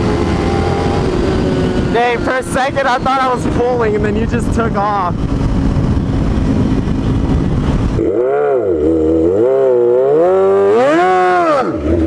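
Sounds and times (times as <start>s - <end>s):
motorcycle engine revving: 0.0s - 12.0s
wind on microphone: 0.0s - 12.0s.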